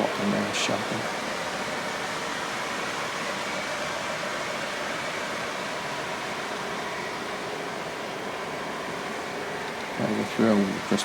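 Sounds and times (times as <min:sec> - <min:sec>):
model trains whirring on track: 0:00.0 - 0:11.0.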